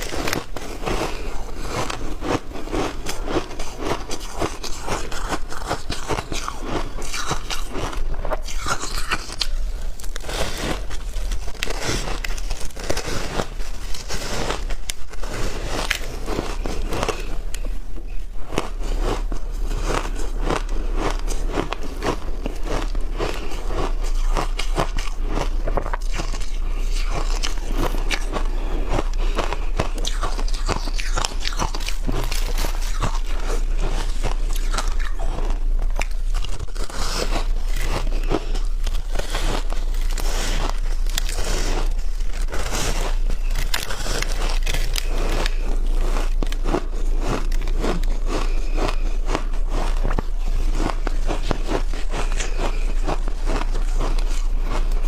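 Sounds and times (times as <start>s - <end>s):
crunching and chewing ice: 0.0s - 55.0s
steady low hum: 0.0s - 55.0s.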